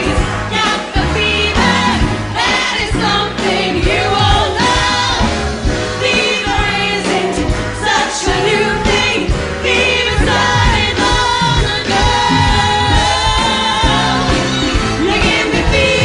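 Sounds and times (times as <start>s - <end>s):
pop backing track: 0.0s - 16.0s
women singing together: 0.0s - 16.0s.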